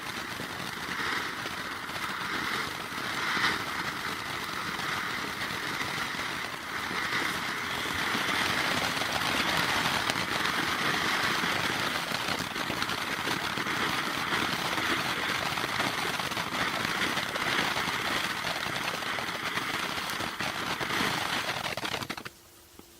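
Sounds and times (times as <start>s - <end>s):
firework fountain hissing and crackling: 0.0s - 22.9s.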